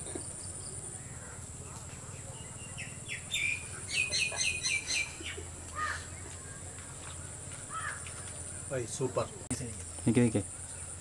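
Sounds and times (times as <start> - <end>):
high insect whine: 0.0 - 6.6, 7.2 - 11.0
bird chirping: 0.0 - 11.0.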